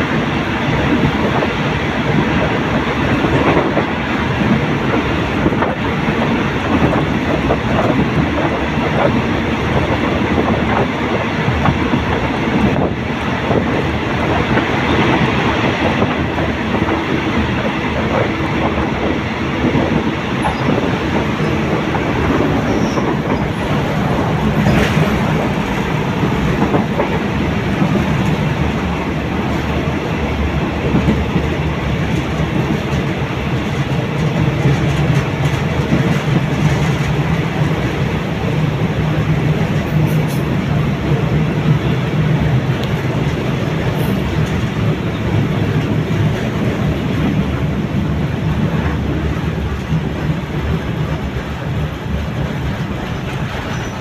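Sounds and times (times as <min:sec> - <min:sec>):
train rumbling rush: 0:00.0 - 0:54.0
train wheels clacking over rails: 0:00.0 - 0:54.0.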